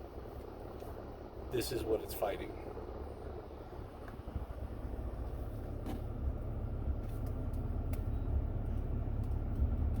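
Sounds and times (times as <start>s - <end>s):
engine rumble inside truck cab: 0.0s - 10.0s.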